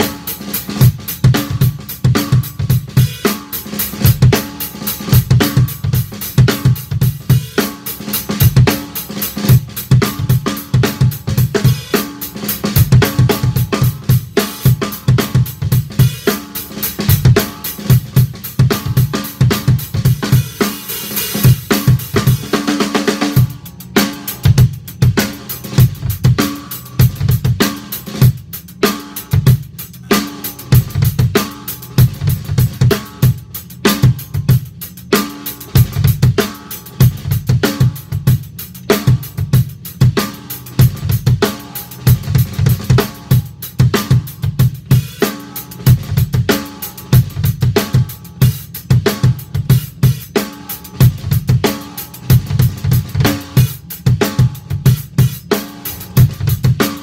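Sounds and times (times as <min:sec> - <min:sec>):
drum kit groove: 0:00.0 - 0:57.0.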